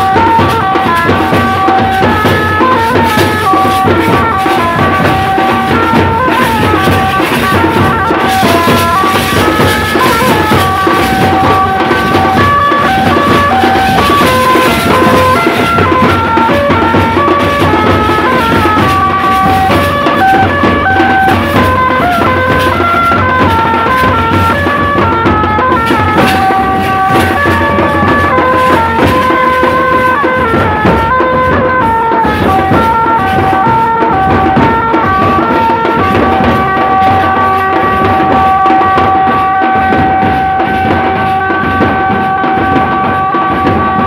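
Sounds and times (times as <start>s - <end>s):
bass drum beating: 0.0s - 44.0s
melodic instrument held notes: 0.0s - 44.0s
tasha drums: 0.0s - 44.0s.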